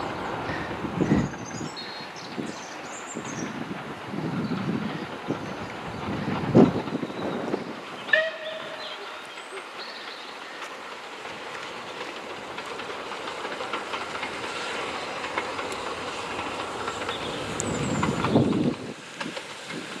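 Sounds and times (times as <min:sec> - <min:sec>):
steam locomotive exhaust: 0:00.0 - 0:20.0.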